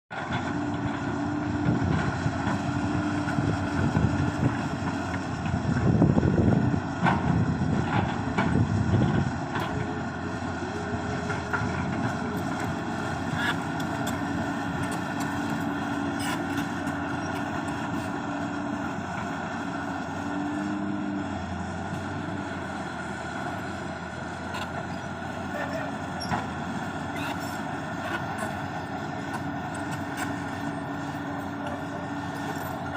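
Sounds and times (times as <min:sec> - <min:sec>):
excavator diesel engine running: 0:00.1 - 0:32.9.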